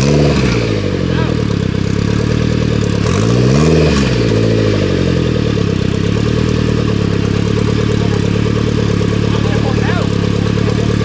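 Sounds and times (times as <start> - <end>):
buggy engine idling and revving: 0.0 - 11.0.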